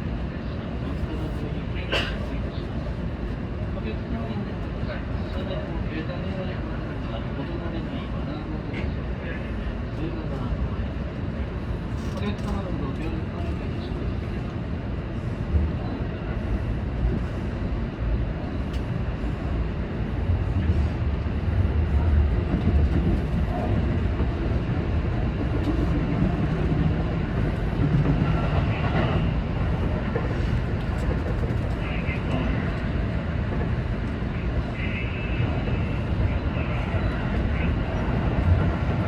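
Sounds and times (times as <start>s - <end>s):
electric train rolling rumble: 0.0s - 39.0s.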